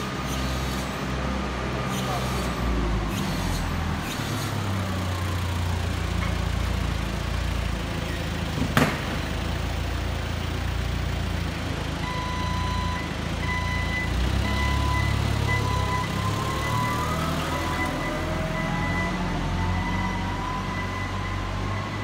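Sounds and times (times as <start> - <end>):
forklift humming: 0.0 - 22.0.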